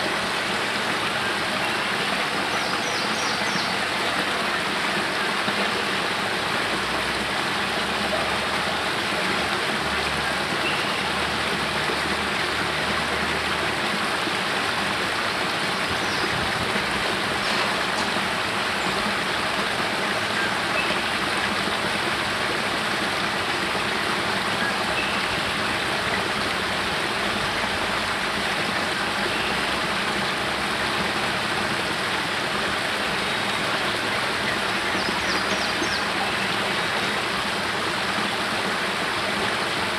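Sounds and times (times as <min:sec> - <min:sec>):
water rushing down rocky cascade: 0:00.0 - 0:39.9.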